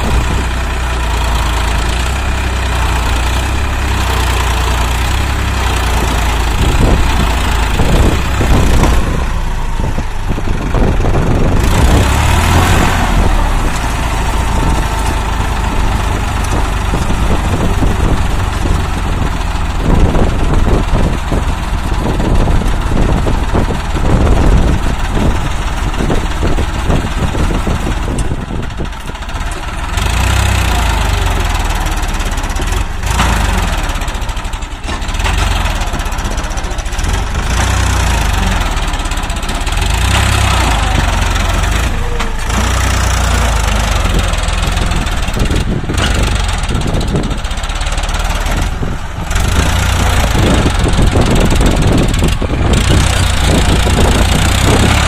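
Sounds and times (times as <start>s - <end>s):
tractor diesel engine straining: 0.0s - 55.0s.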